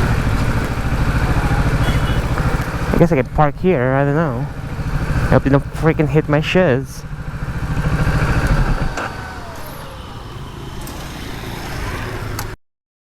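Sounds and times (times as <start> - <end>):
faint street traffic: 0.0 - 12.6
motorcycle engine running: 0.0 - 12.6.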